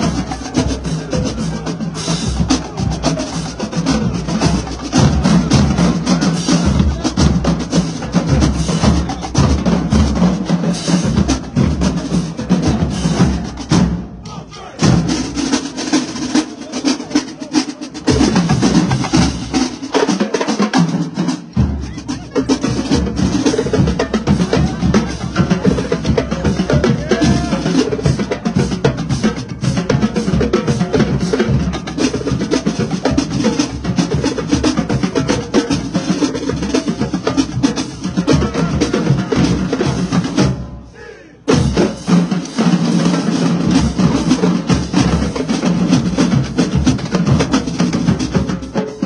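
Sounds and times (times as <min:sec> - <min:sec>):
bass drums: 0:00.0 - 0:15.8, 0:17.9 - 0:19.9, 0:21.0 - 0:40.8, 0:41.5 - 0:49.0
snare drums: 0:00.0 - 0:49.0.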